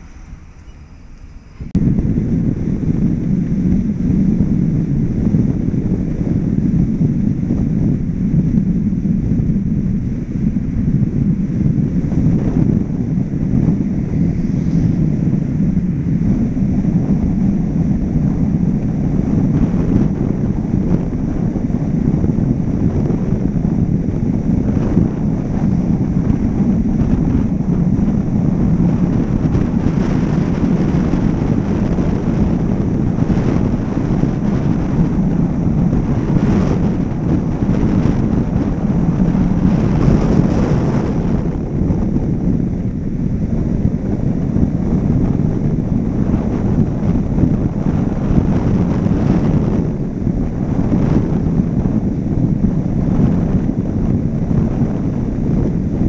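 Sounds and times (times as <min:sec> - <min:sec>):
car road and tyre noise: 0:00.0 - 0:56.0
wind buffeting microphone: 0:00.0 - 0:56.0.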